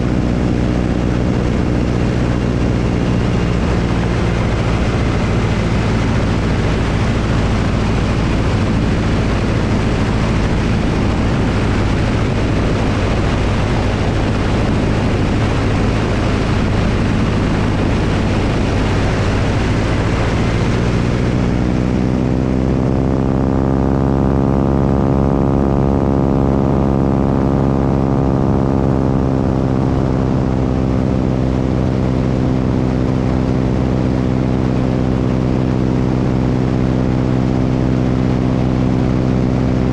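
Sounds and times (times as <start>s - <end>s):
propeller airplane engine: 0.0s - 39.9s
wind rush on microphone: 0.0s - 39.9s.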